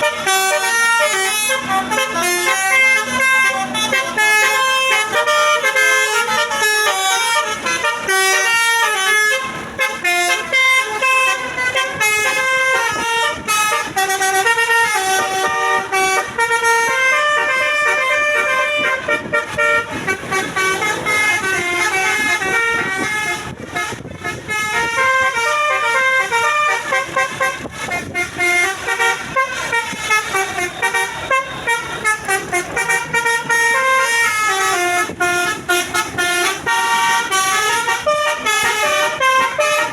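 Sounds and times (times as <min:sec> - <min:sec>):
multi-tone air horn melody: 0:00.0 - 0:39.9.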